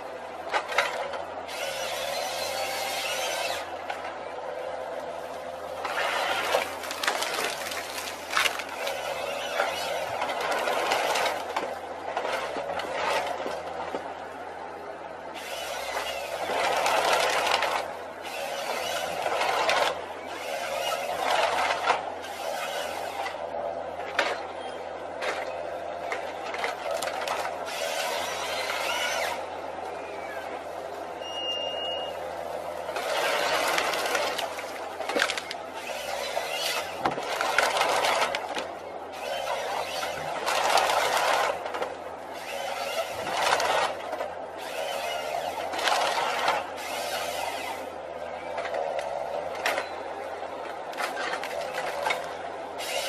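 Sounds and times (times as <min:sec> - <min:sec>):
tree-cutting machine running: 0:00.0 - 0:53.0.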